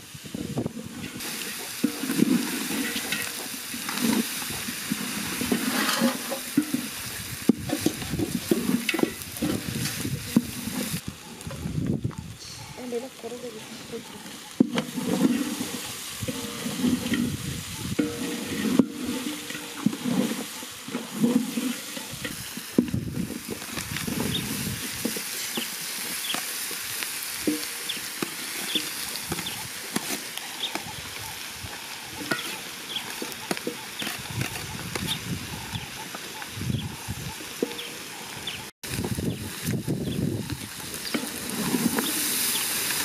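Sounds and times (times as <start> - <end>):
food sizzling with crackling pops: 0.0 - 43.0
stirring and scraping in a pot: 0.1 - 43.0.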